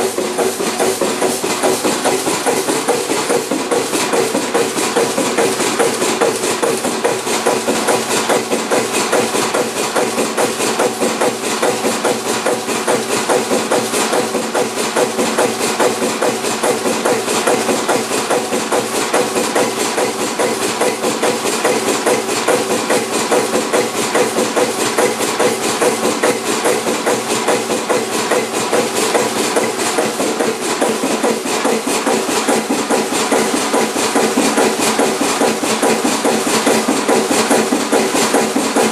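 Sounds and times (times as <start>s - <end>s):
diesel engine knocking beat: 0.0s - 38.9s.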